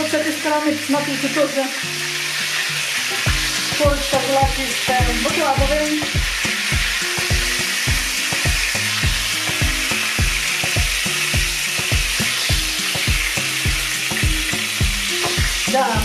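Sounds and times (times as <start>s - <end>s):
oil sizzling in a frying pan: 0.0s - 16.0s
background music with beat: 1.9s - 16.0s.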